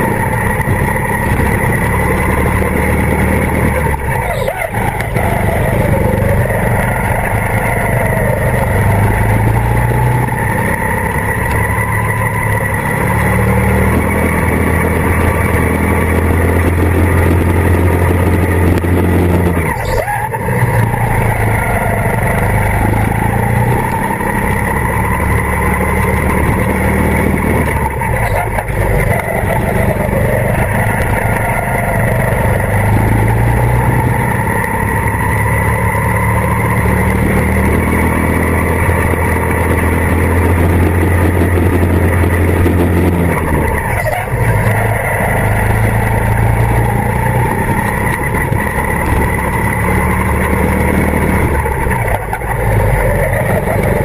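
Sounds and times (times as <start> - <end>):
go-kart engine at high revs: 0.0 - 54.0.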